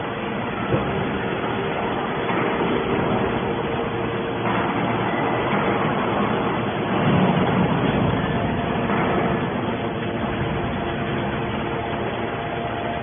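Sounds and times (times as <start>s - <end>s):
faint steady whine: 0.0s - 13.0s
hydraulic baler motor and pump: 0.0s - 13.0s.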